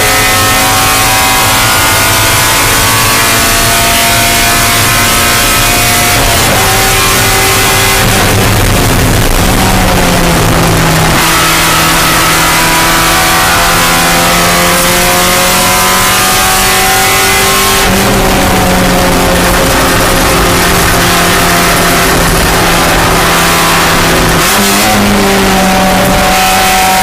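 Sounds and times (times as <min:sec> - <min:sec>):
car engine racing under load: 0:00.0 - 0:27.0.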